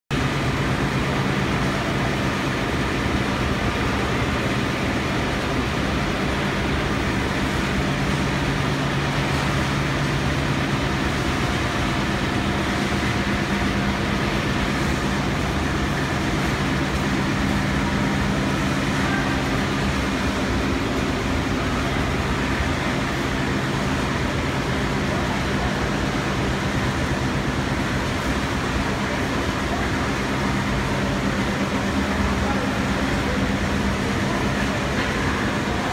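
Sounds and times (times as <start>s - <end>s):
production machinery humming: 0.1s - 35.9s.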